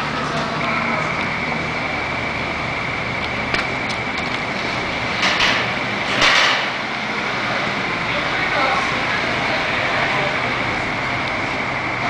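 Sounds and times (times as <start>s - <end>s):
machinery low hum: 0.0s - 12.0s.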